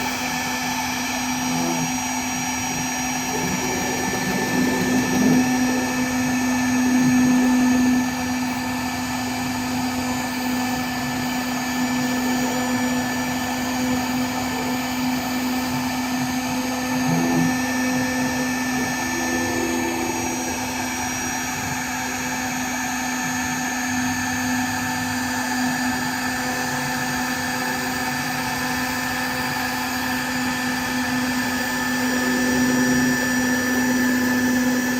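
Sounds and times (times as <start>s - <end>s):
router spindle high pitch: 0.0s - 34.9s
wood milling noise: 0.0s - 34.9s.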